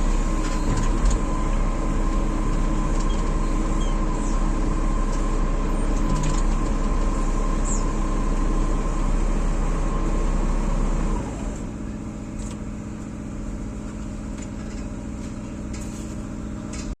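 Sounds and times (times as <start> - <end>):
heavy machine engine whining: 0.0 - 16.8.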